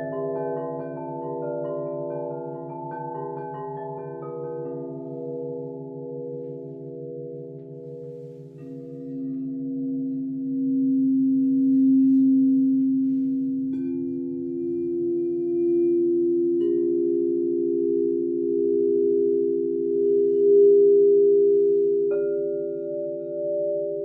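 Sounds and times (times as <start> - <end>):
crystal singing bowls ringing: 0.0 - 24.0.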